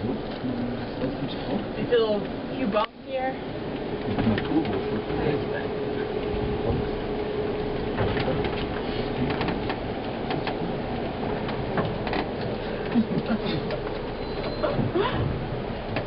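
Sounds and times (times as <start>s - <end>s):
tramway cabin hum: 0.0s - 16.0s.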